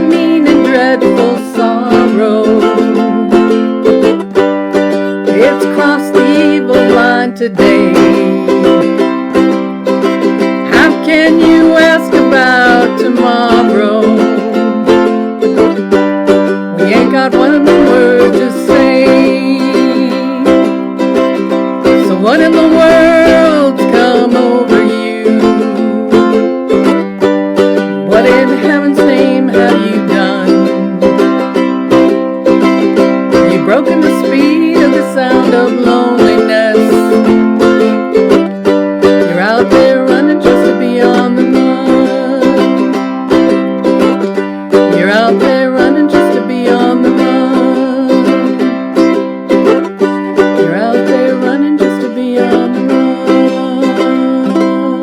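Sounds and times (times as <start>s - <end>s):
picked ukulele melody: 0.0s - 55.0s
ukulele strumming: 0.0s - 55.0s.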